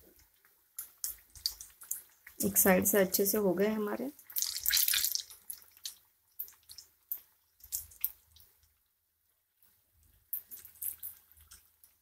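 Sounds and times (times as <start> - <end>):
sizzling crackles and pops: 0.0 - 8.9, 9.6 - 12.0
chillies deep-frying in hot oil: 0.0 - 12.0.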